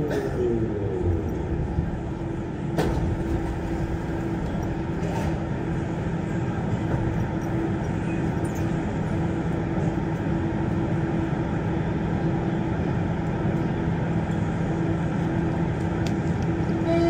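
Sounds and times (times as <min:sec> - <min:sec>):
metro train rumble: 0:00.0 - 0:17.0.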